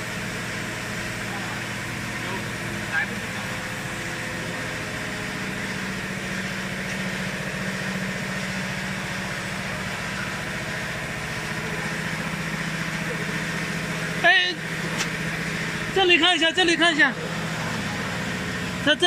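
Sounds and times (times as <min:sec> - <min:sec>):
machine motors humming: 0:00.0 - 0:19.0.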